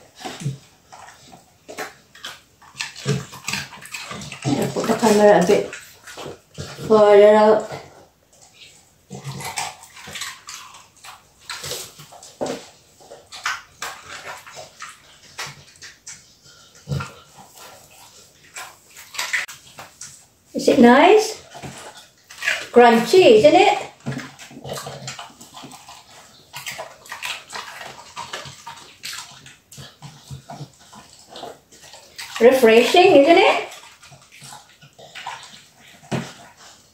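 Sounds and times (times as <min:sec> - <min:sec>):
dog chewing cucumber: 0:00.0 - 0:20.4, 0:21.0 - 0:36.9.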